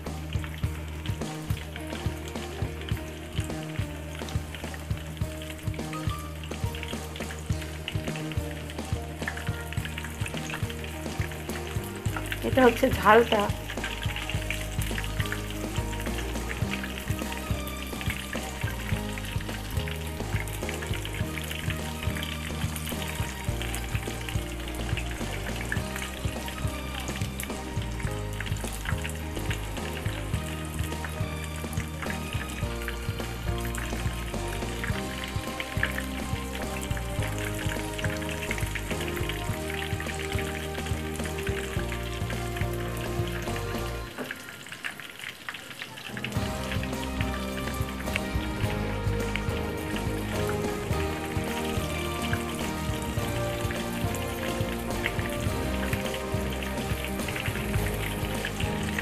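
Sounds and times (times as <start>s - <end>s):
chicken frying in hot oil: 0.0s - 59.0s.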